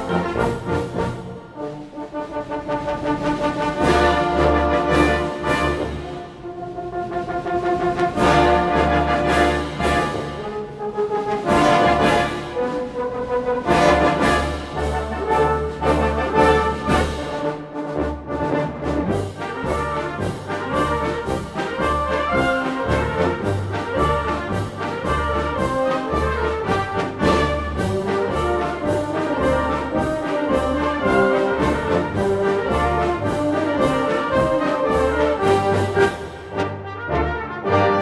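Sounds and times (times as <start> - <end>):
concert band playing: 0.0 - 38.0.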